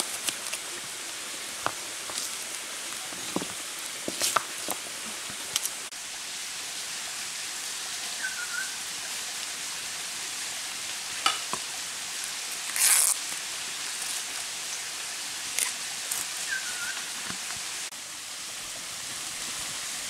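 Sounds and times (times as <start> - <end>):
bamboo sizzling in campfire: 0.0 - 20.0.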